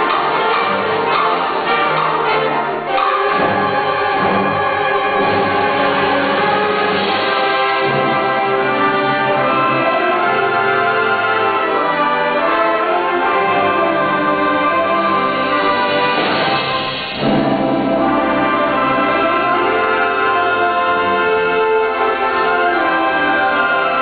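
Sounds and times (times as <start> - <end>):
symphonic band playing: 0.0 - 24.0.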